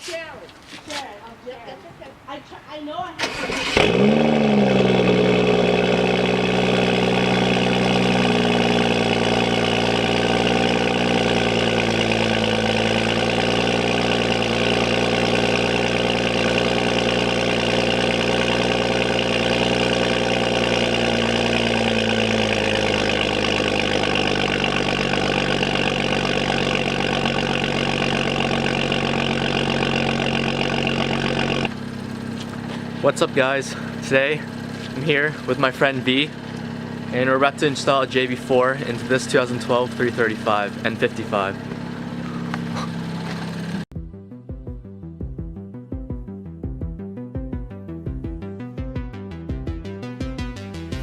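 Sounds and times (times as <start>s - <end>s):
car engine idling: 1.2s - 43.9s.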